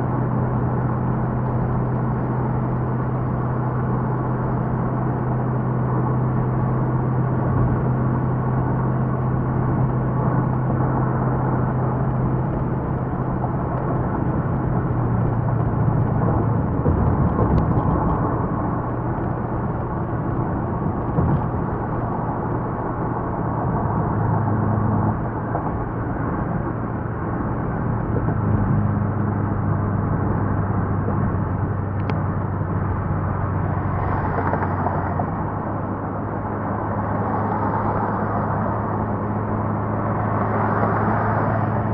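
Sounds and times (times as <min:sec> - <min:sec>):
car engine hum: 0:00.0 - 0:41.9
road and tyre noise: 0:00.0 - 0:41.9.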